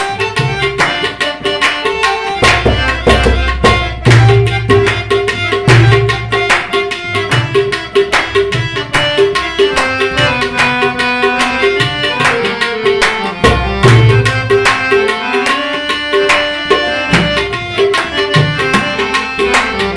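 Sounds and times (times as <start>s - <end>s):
harmonium melody: 0.0s - 19.9s
tabla rhythm: 0.0s - 19.9s.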